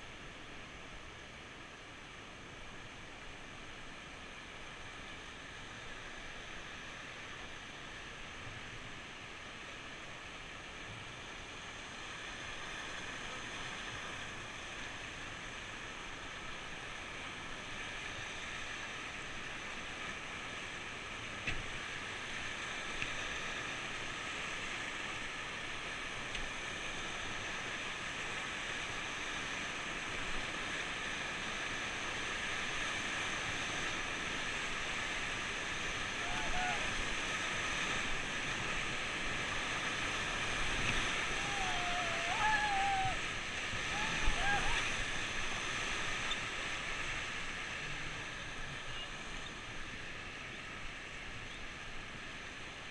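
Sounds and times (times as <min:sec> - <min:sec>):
rushing river water: 0:00.0 - 0:52.9.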